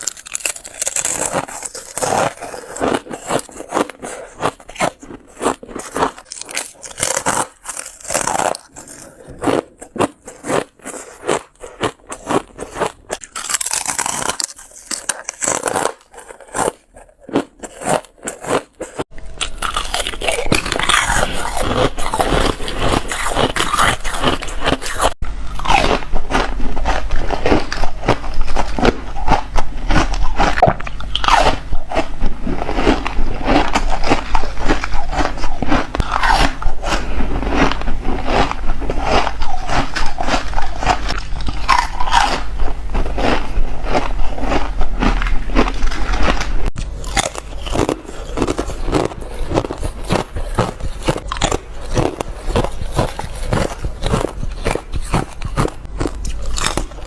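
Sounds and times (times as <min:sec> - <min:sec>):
crunching ice between teeth: 0:00.0 - 0:57.0.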